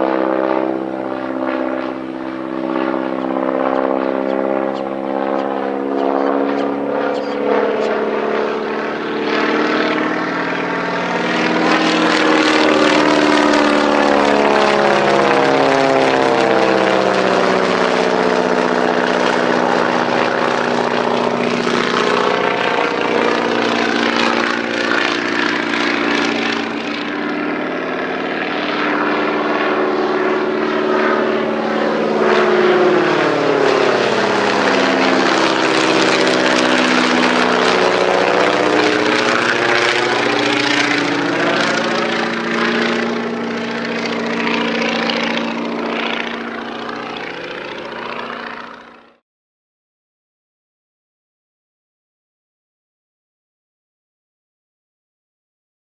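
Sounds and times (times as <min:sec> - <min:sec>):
biplane engine droning past: 0:00.0 - 0:49.2.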